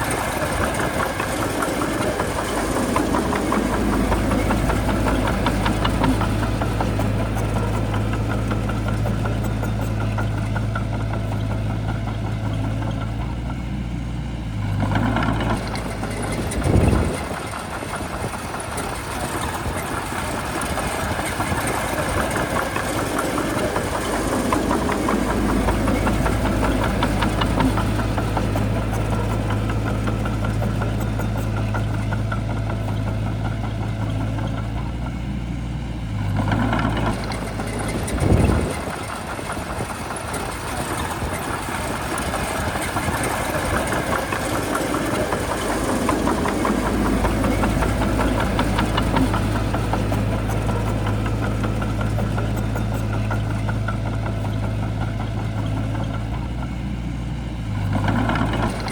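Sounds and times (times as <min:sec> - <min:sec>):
bulldozer diesel engine humming: 0:00.0 - 0:58.9.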